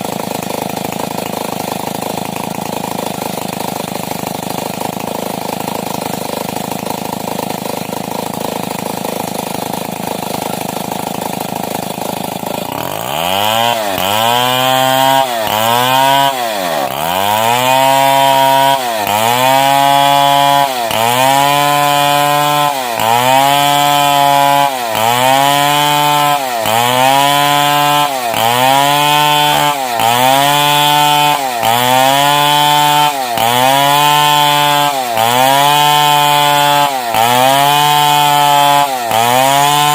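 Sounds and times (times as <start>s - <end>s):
chainsaw ripping timber: 0.0s - 39.9s.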